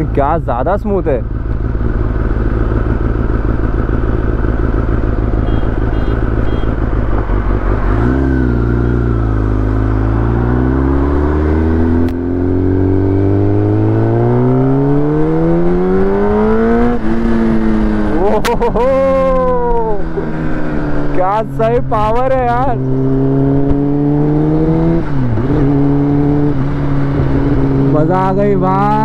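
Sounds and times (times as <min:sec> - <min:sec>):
motorcycle engine accelerating: 0:00.9 - 0:29.0.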